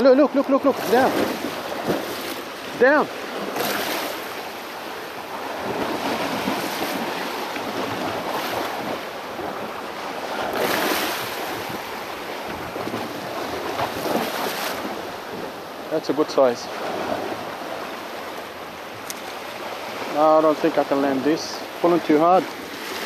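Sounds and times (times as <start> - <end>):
waves splashing over rocks: 0.0 - 23.0.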